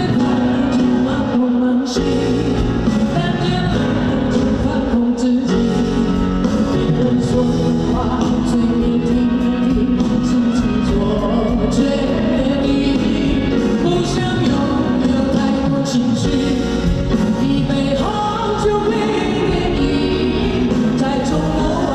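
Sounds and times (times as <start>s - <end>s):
drums and cymbals: 0.0s - 21.9s
live rock band playing: 0.0s - 21.9s
person singing: 0.0s - 21.9s.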